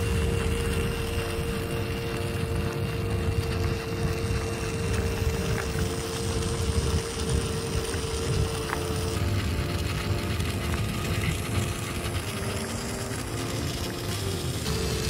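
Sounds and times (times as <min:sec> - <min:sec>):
low rumble: 0:00.0 - 0:15.0
small electric motor whining: 0:00.0 - 0:15.0.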